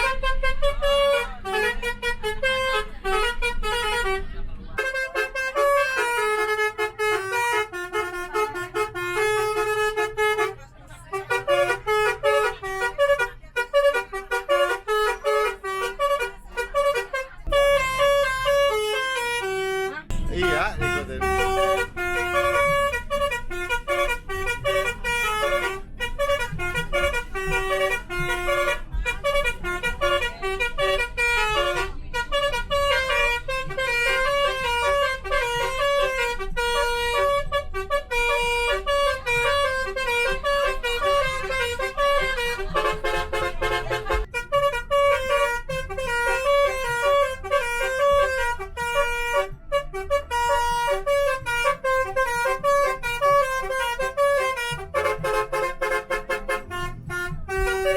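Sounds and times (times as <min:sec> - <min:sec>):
multi-tone bus horn melody: 0:00.0 - 0:57.9.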